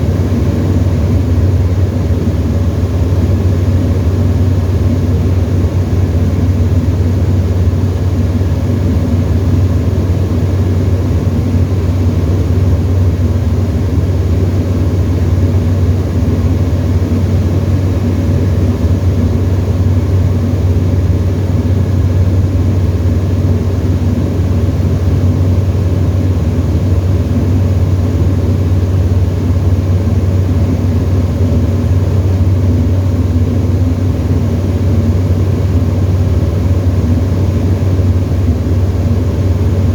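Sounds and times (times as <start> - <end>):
aeroplane engine and propeller drone: 0.0 - 39.9.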